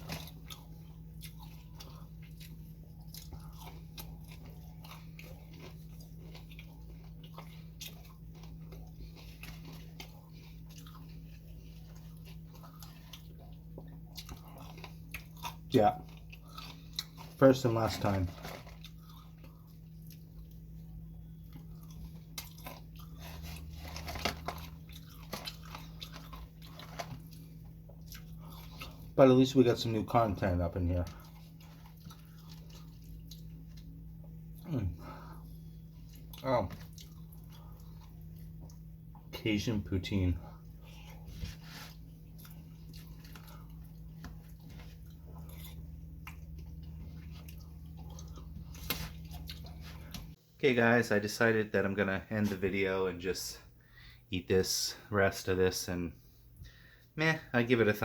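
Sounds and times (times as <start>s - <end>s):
person chewing and crunching food: 0.0s - 50.5s
steady low hum: 0.0s - 58.0s.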